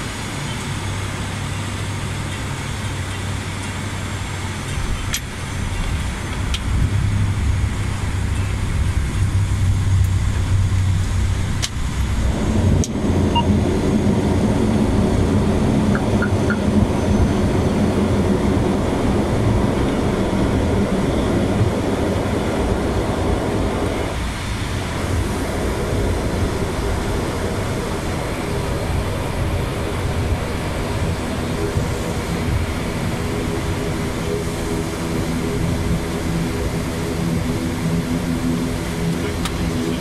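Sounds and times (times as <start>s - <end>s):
runway rumble: 0.0s - 40.0s
turboprop engine drone: 0.0s - 40.0s.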